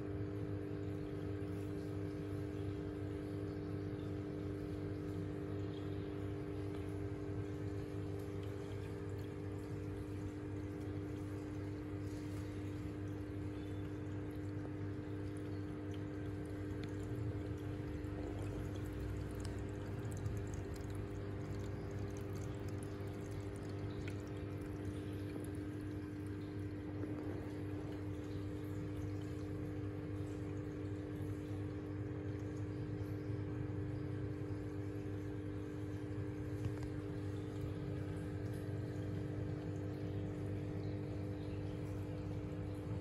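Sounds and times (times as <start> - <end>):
filter pump hum: 0.0 - 43.0
water trickling: 0.0 - 43.0.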